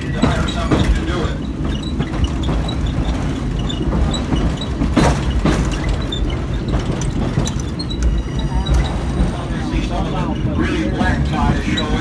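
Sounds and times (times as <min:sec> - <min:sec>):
train carriage rumbling: 0:00.0 - 0:12.0.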